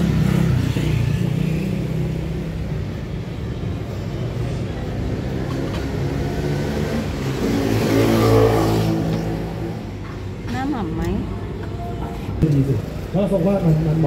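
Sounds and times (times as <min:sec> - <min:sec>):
street noise: 0:00.0 - 0:14.0.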